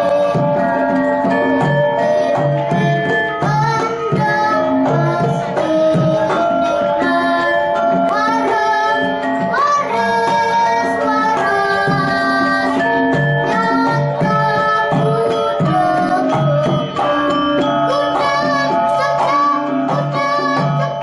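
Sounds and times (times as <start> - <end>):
children singing: 0.0 - 21.0
metallophones ringing: 0.0 - 21.0.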